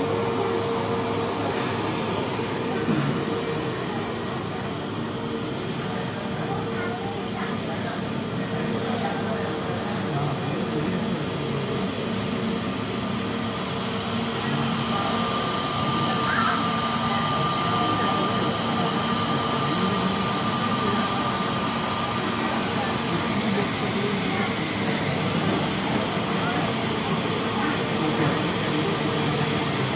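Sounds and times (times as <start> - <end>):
jet engines whining: 0.0 - 29.9.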